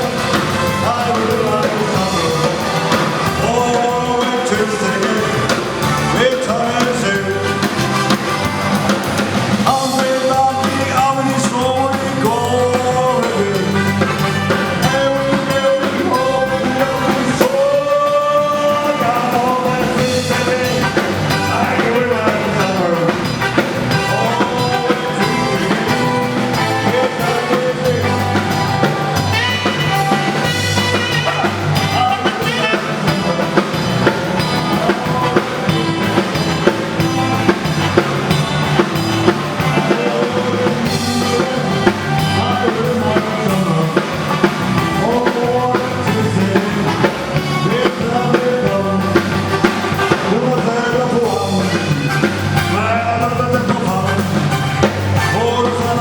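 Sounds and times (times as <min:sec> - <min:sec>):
drum kit and bass beat: 0:00.0 - 0:56.0
person singing: 0:00.0 - 0:56.0.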